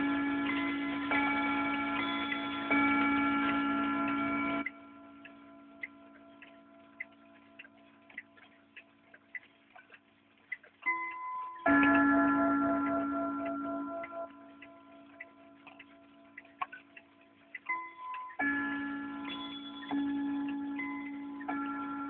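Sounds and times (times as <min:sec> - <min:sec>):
wall clock ticking: 0:00.0 - 0:22.0.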